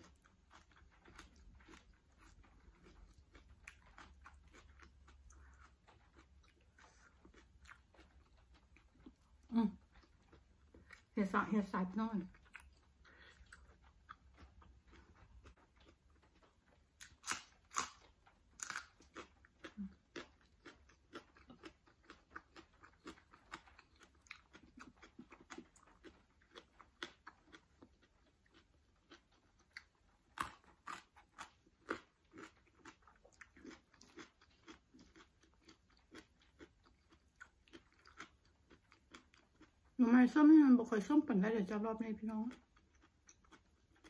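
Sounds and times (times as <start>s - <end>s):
crunchy eating: 0.0s - 40.0s, 42.5s - 44.0s.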